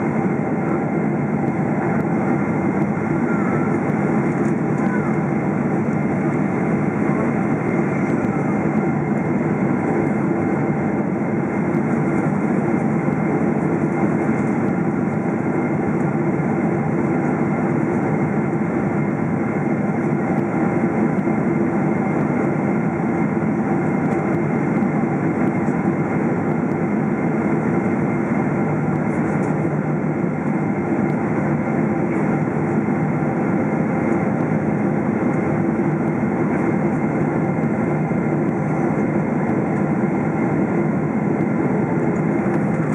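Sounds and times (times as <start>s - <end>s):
airflow rushing in cabin: 0.0s - 42.9s
jet engines droning: 0.0s - 42.9s.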